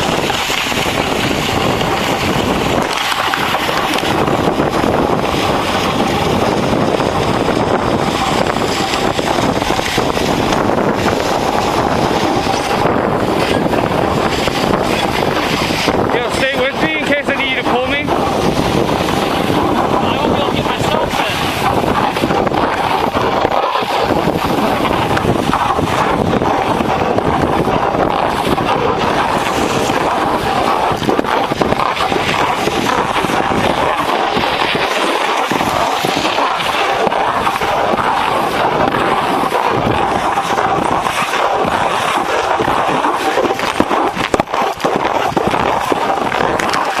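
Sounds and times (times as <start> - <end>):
snowboard scraping over snow: 0.0 - 47.0.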